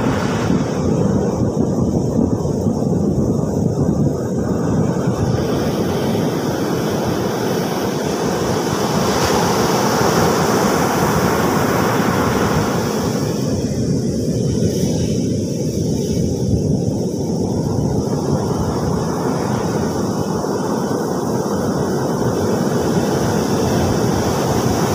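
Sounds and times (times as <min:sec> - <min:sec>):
ocean surf breaking: 0:00.0 - 0:01.5, 0:04.4 - 0:24.9.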